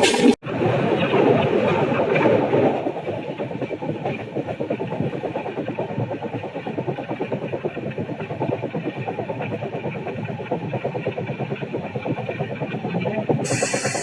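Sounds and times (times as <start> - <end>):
train coach rumbling and rattling: 0.0 - 14.0.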